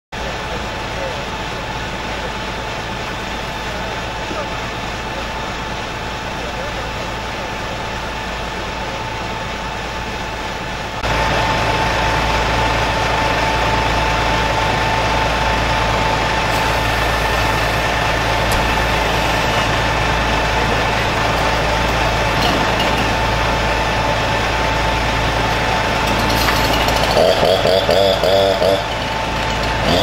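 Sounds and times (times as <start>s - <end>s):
fire engine running: 0.1s - 30.0s
constant whine: 0.2s - 30.0s.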